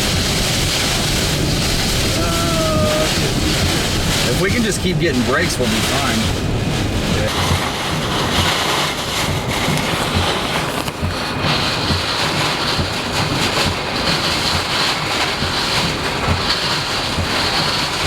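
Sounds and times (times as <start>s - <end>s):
gusts buffeting microphone: 0.0s - 18.0s
howling wind and driving rain: 0.0s - 18.0s.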